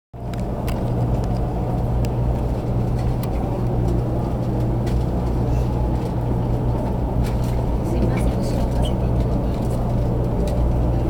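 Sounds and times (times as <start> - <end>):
train cabin hum and rumble: 0.2 - 11.0.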